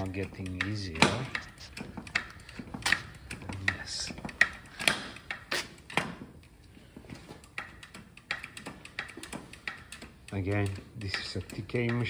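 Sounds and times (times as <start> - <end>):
hydraulic jack press clicking: 0.0 - 12.0.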